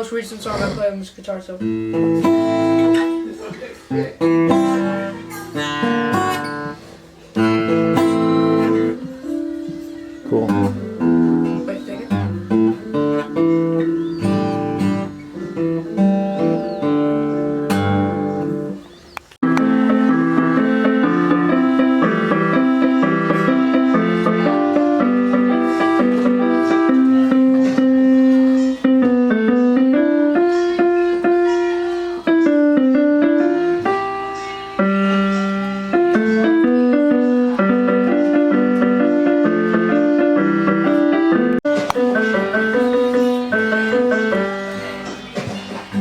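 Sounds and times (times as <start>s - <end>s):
electronic keyboard slow melody: 4.5s - 46.0s.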